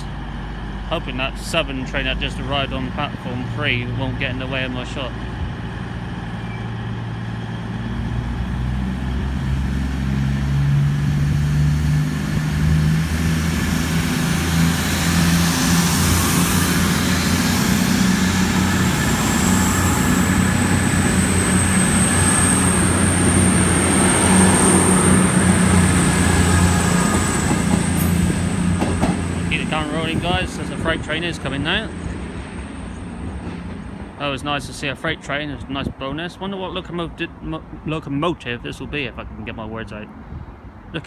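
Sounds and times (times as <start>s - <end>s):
freight train rumbling: 0.0s - 41.0s.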